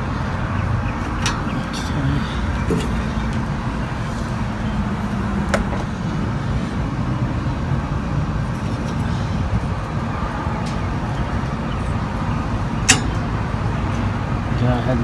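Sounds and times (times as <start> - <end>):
machinery rumble and hum: 0.0 - 15.0.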